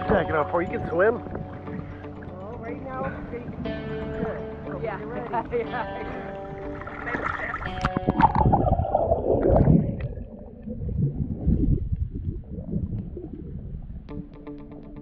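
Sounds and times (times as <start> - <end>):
water sloshing and gurgling: 0.0 - 14.2
muffled underwater rumble: 0.0 - 14.4.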